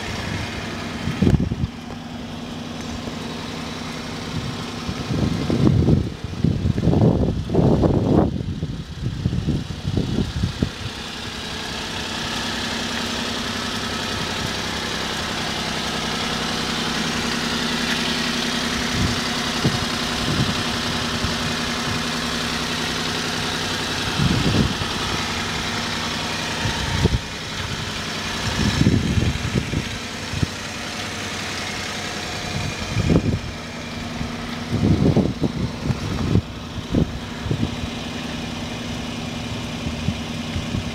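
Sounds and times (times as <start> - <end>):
low thumps and rumbles: 0.0 - 40.9
small truck engine idling: 0.0 - 40.9.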